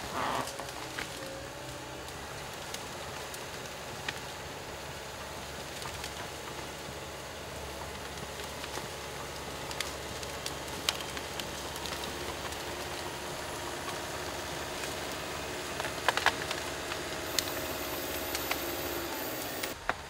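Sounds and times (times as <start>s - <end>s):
diesel engine running: 0.0s - 19.8s
wood cracking: 0.0s - 20.0s.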